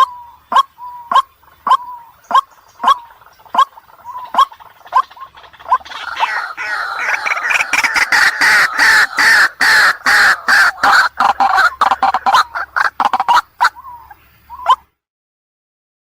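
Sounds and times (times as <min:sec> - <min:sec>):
bird call repeated notes: 0:00.0 - 0:14.9.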